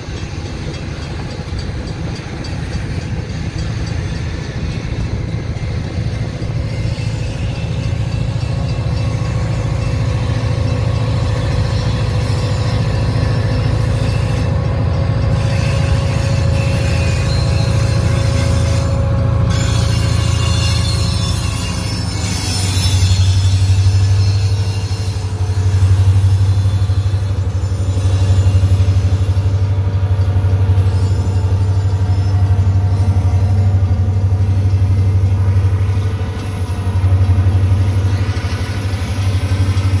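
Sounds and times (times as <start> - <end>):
locomotive engine rumbling: 0.0 - 40.0.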